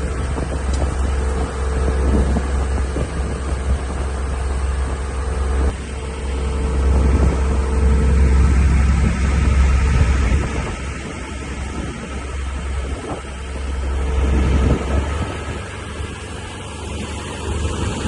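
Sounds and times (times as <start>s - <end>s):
constant hum: 0.0s - 18.0s
vehicle rumble: 0.0s - 18.0s.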